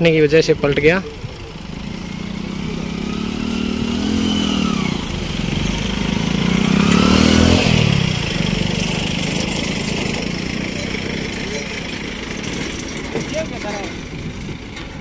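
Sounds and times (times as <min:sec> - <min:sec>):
motorcycle engine revving past: 0:00.6 - 0:14.6.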